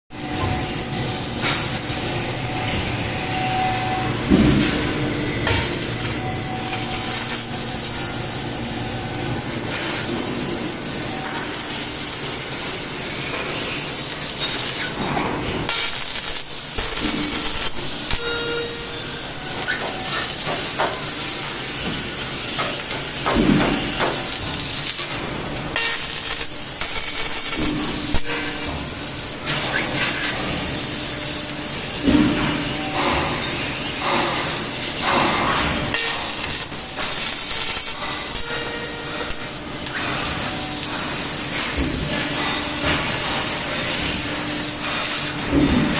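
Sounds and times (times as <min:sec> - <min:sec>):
laser cutter hissing: 0:00.2 - 0:45.7.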